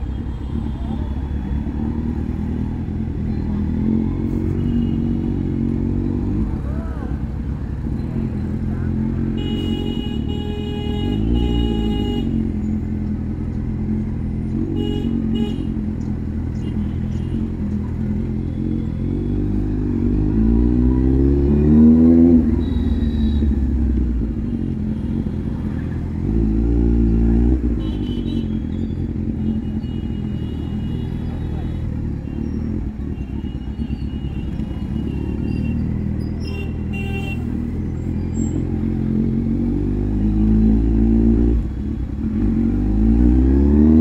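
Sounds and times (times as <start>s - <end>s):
motorcycle engine revving: 1.5s - 44.0s.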